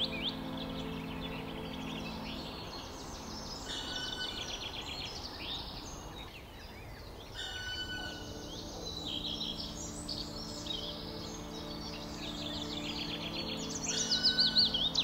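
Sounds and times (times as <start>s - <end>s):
small songbirds singing: 0.0s - 15.0s.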